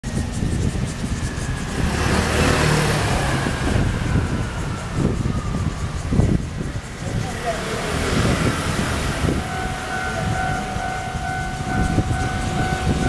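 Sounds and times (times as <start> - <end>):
vehicle passing: 0.1 - 13.0.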